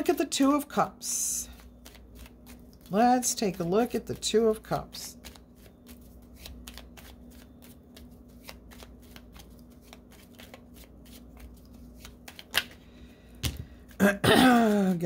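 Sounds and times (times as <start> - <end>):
cards being shuffled: 1.3 - 14.0, 14.6 - 15.0.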